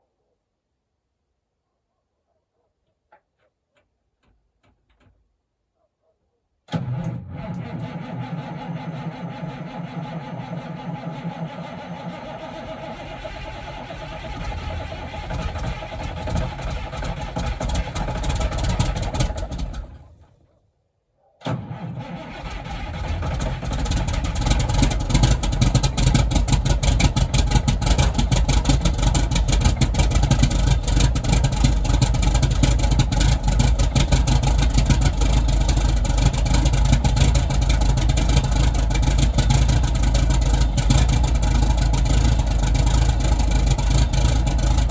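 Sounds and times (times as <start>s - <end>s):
diesel truck engine rumbling: 6.8s - 20.3s, 22.0s - 44.9s.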